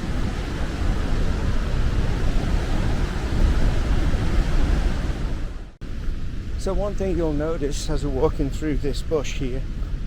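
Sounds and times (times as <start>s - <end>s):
waterfall and river rushing: 0.0s - 10.0s
wind buffeting microphone: 0.0s - 10.0s.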